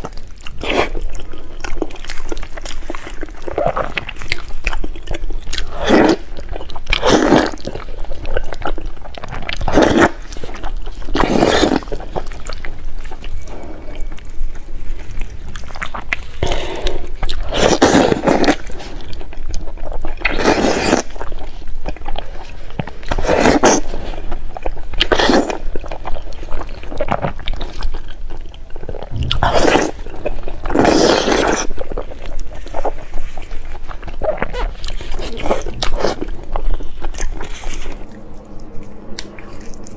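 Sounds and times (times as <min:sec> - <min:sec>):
wet biting and chewing: 0:00.0 - 0:39.9.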